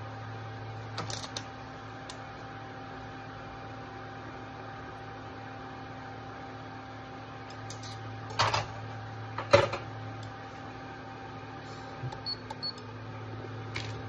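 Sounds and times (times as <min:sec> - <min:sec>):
kitchen hum: 0:00.0 - 0:14.0.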